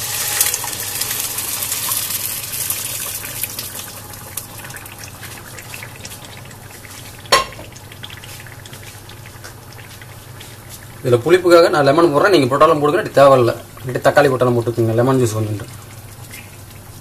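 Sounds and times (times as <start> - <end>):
oil and onions sizzling in a pan: 0.0 - 17.0.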